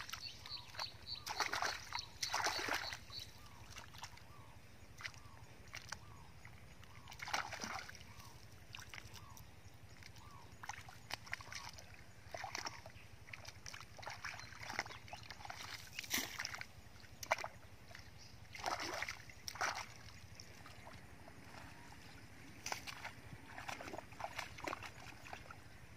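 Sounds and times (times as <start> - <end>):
hands splashing in muddy water: 0.0 - 4.3, 7.0 - 9.4, 10.0 - 25.9.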